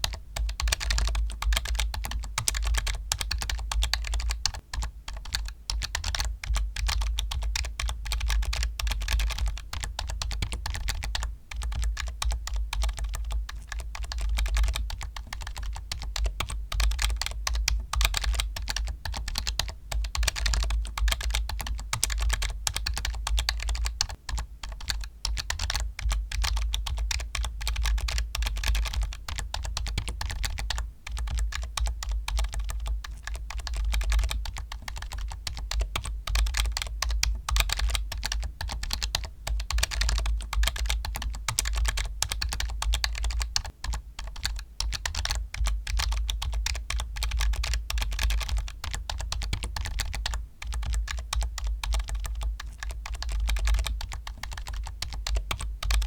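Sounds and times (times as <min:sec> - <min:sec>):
typing on computer keyboard: 0:00.0 - 0:56.0.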